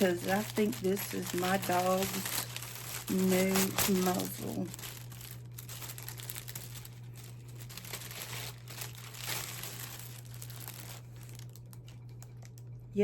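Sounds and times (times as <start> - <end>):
packaging crinkling and tearing: 0.0 - 12.8.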